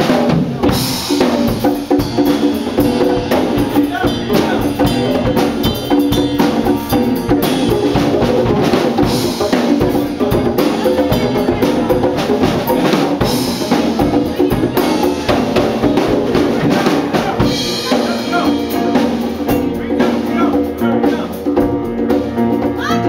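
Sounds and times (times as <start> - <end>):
drum kit steady beat: 0.0 - 23.0
jazz band playing funk: 0.0 - 23.0.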